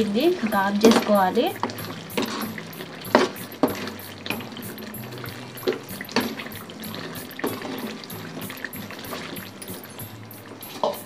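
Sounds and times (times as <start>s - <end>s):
gravy sloshing: 0.0s - 11.0s.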